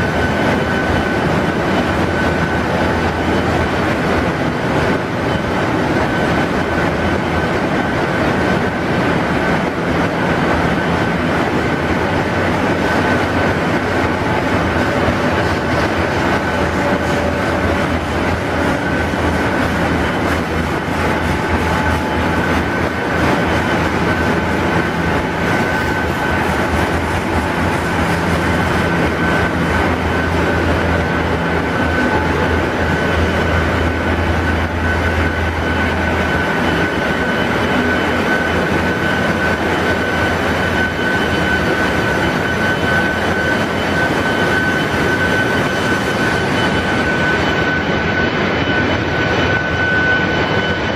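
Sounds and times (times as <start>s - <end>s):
engine room machinery drone: 0.0s - 50.9s.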